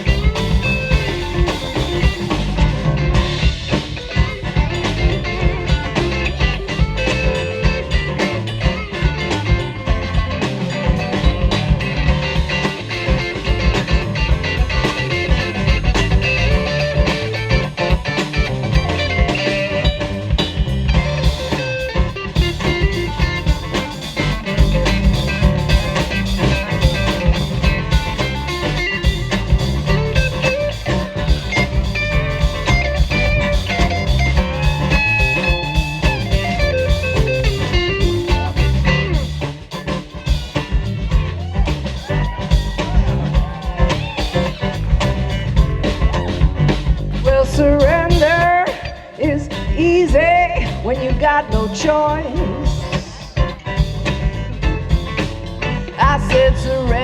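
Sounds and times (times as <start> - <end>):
guitar: 0.0 - 57.0
live band playing: 0.0 - 57.0.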